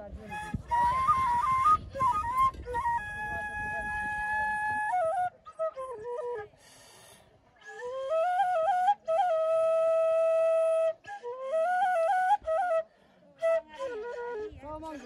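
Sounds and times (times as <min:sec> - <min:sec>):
solo flute melody: 0:00.1 - 0:06.9, 0:07.6 - 0:15.0.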